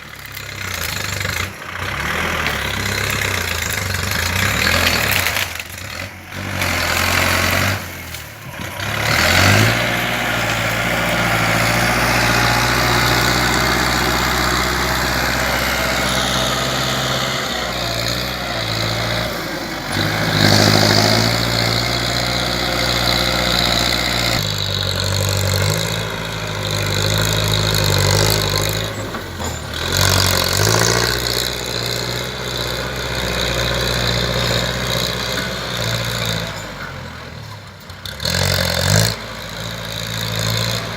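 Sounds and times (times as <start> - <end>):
tractor diesel engine working: 0.0 - 40.9.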